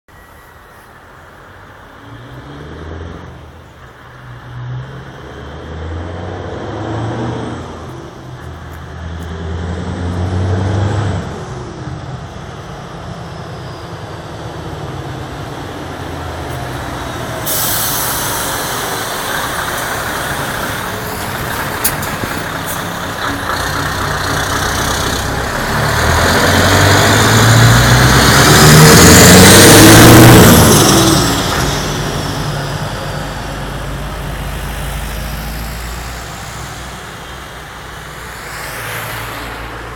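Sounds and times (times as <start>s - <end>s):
truck engine roaring: 0.4s - 39.9s.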